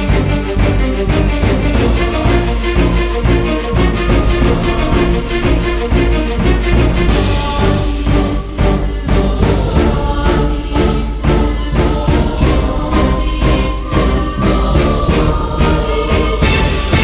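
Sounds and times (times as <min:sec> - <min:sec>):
choral singing: 0:00.0 - 0:17.0.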